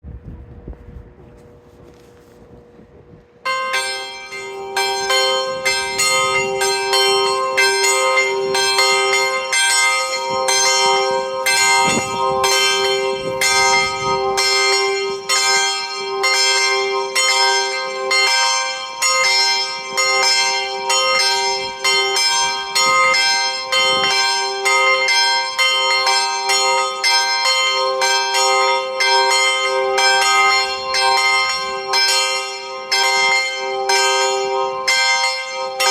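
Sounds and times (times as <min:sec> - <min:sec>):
clock bells ringing: 0:03.4 - 0:35.9.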